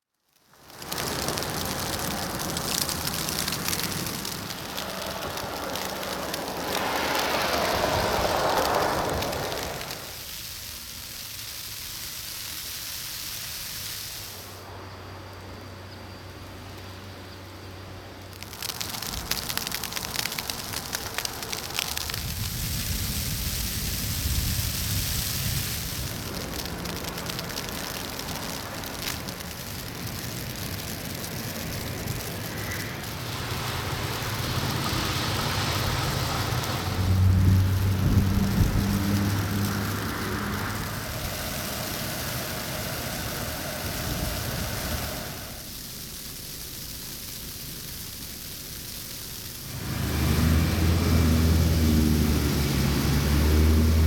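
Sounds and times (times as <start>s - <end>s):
wet snow pattering: 0.0s - 14.6s, 18.2s - 54.0s.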